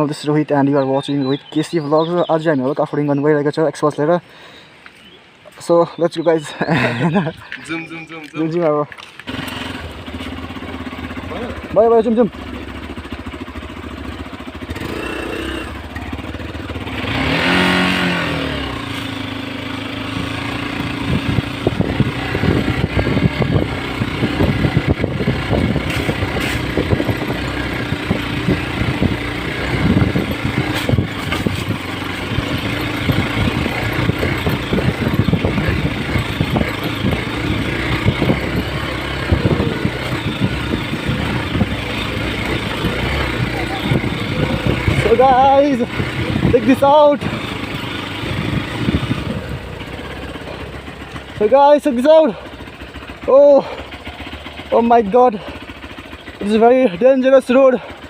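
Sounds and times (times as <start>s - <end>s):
knocks and rattles of bike: 3.7s - 58.0s
motorcycle engine revving: 6.6s - 58.0s.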